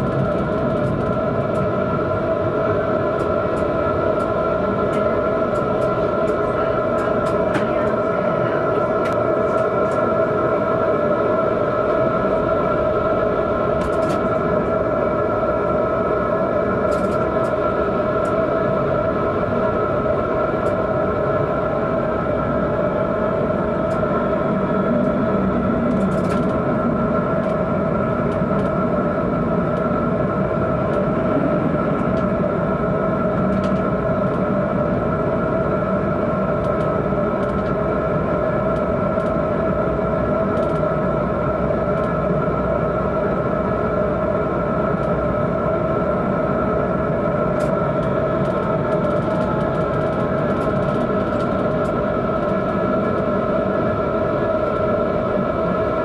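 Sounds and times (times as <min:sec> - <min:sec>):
electrical hum: 0:00.0 - 0:56.0
tram rumbling on track: 0:00.0 - 0:56.0.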